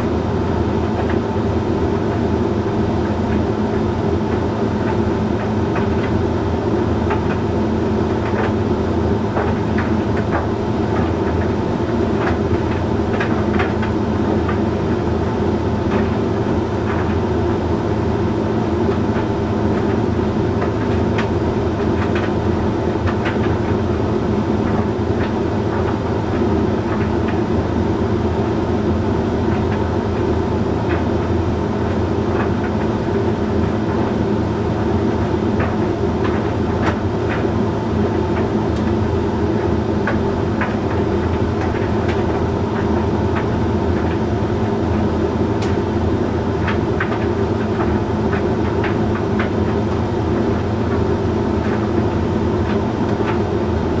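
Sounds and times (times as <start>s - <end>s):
tumble dryer humming: 0.0s - 54.0s.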